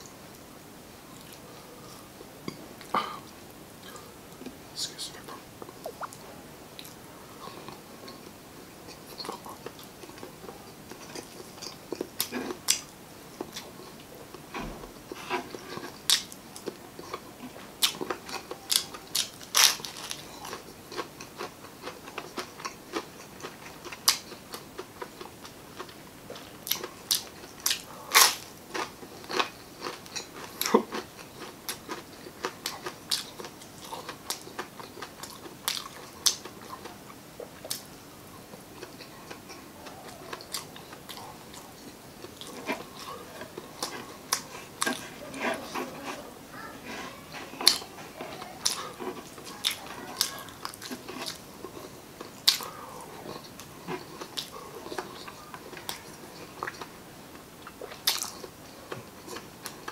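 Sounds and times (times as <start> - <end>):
chewing crispy food: 1.1 - 59.9.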